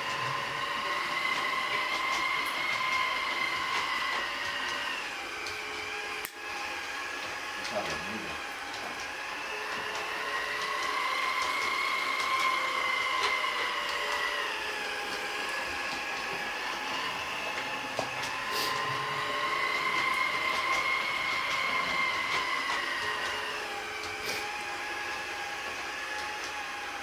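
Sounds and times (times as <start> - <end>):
model train motor whine: 0.0 - 27.0.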